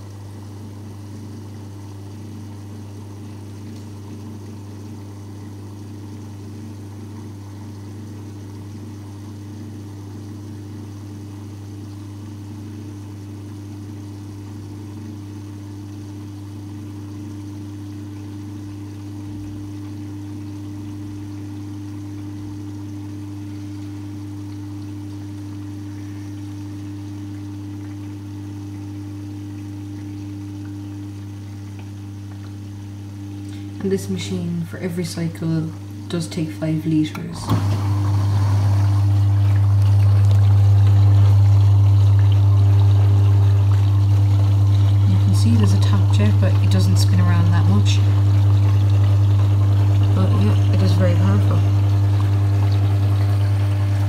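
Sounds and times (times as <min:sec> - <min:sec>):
dishwasher pump hum: 0:00.0 - 0:54.0.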